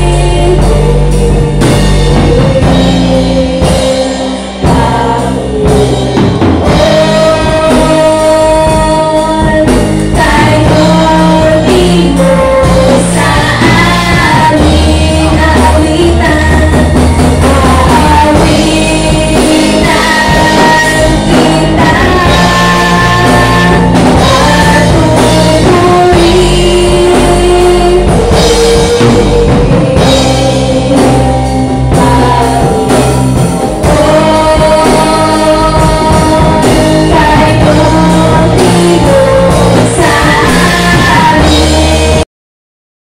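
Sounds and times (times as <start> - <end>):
electric guitars: 0.0 - 42.2
women singing worship song: 0.0 - 42.2
drum kit: 0.0 - 42.3.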